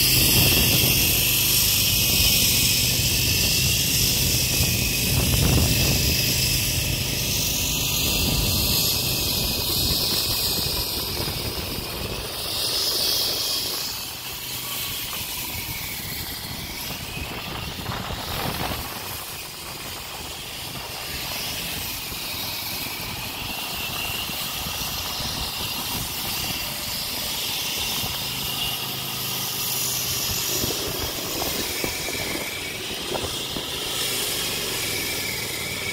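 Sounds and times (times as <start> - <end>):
concrete saw cutting concrete: 0.0 - 35.9.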